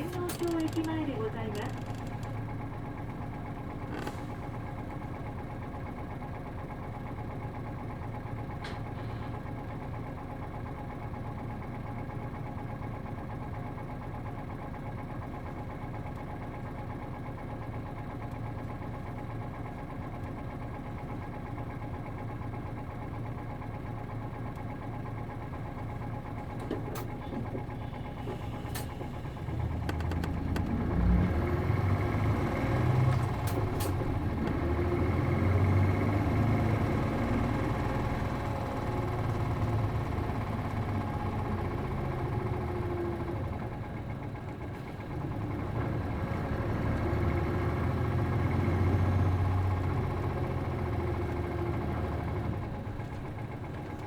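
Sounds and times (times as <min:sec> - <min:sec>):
diesel bus engine idling: 0:00.0 - 0:54.0.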